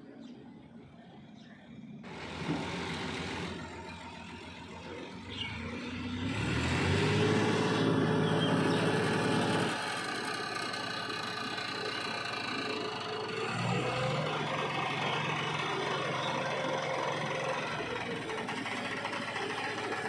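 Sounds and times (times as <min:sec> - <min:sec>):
tractor diesel engine revving: 0:02.0 - 0:20.0.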